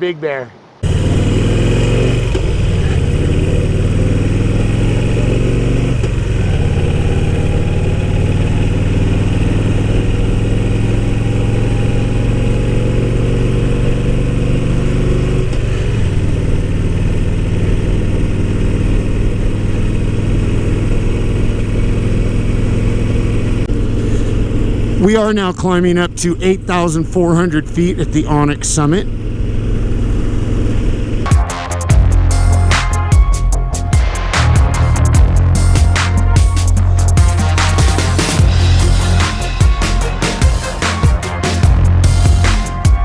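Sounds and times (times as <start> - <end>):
motorcycle engine running: 0.8 - 43.0.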